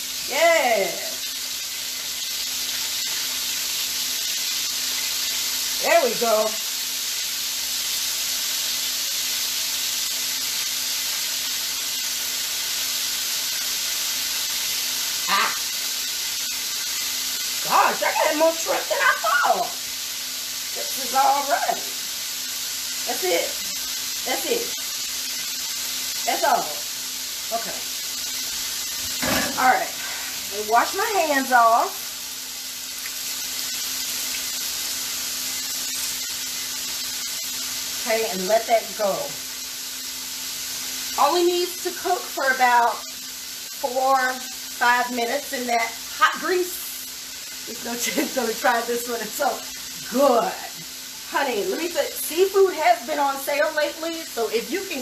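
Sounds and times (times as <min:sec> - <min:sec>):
shrimp sizzling in grease: 0:00.0 - 0:55.0.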